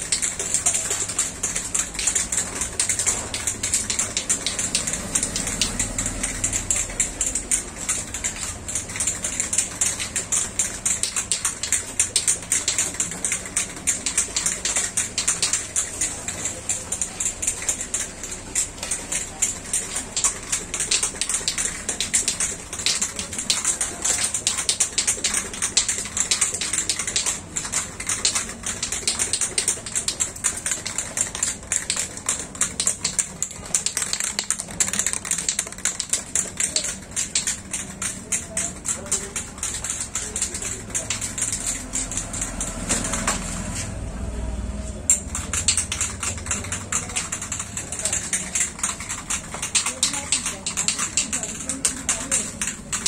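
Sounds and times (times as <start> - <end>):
spray can rattling while shaken: 0.0 - 43.4, 45.1 - 53.0.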